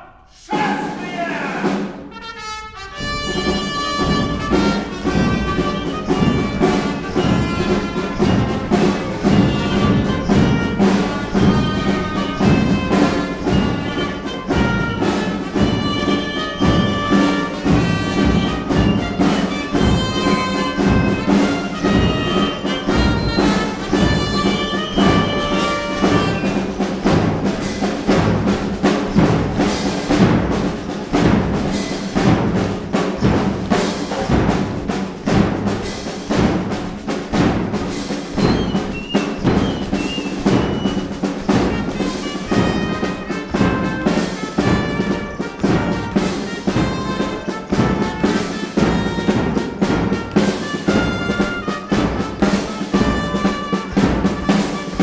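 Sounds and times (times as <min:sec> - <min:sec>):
lively band music with brass: 0:00.0 - 0:55.0
drums playing: 0:00.4 - 0:55.0.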